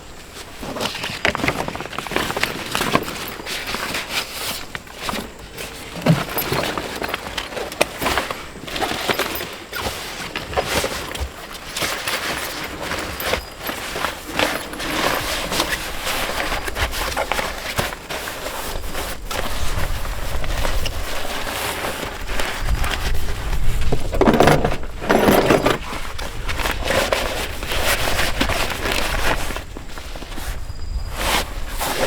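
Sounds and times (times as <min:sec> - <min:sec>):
clicks and clatter of gear: 0:00.2 - 0:32.0
gear rustling: 0:00.2 - 0:32.0.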